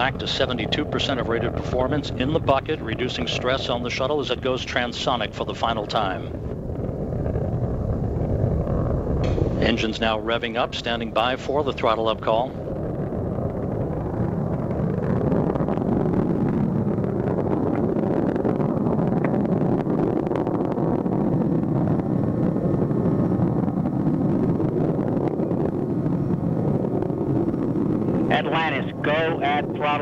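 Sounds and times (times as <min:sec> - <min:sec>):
rocket launch roar: 0:00.0 - 0:30.0.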